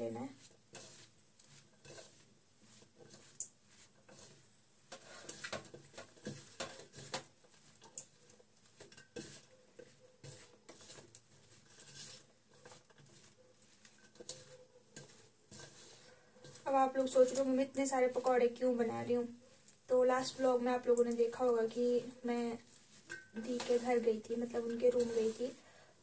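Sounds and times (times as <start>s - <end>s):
hand mixing batter in steel bowl: 0.0s - 26.0s
faint rustling with small clicks: 0.4s - 25.6s.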